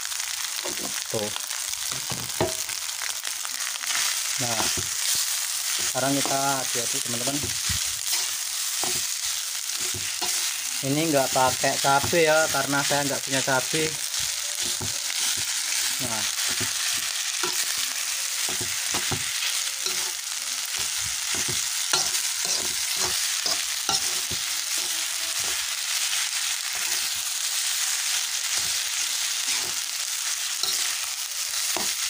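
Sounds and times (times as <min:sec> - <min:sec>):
rice sizzling in oil: 0:00.0 - 0:32.0
metal spatula scraping a pan: 0:03.8 - 0:12.8, 0:14.1 - 0:25.9, 0:26.6 - 0:32.0.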